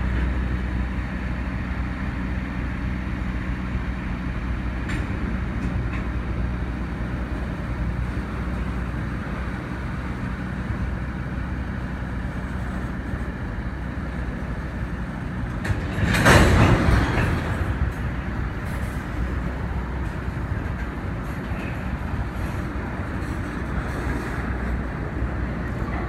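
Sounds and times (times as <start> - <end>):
train rumbling by: 0.0 - 26.0.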